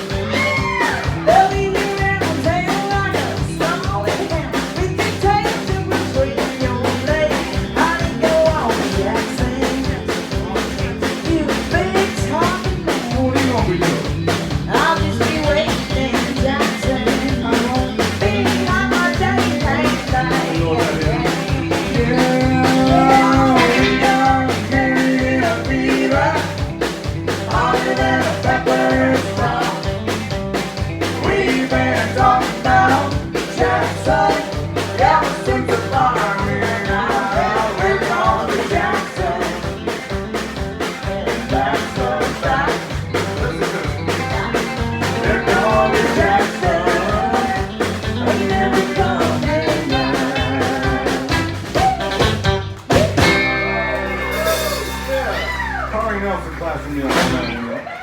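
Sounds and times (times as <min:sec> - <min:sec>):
person singing: 0:00.0 - 0:30.3, 0:31.0 - 0:55.3
country rock band playing: 0:00.0 - 0:58.0
driving drum beat: 0:00.0 - 0:58.0
guitar: 0:00.0 - 0:58.0.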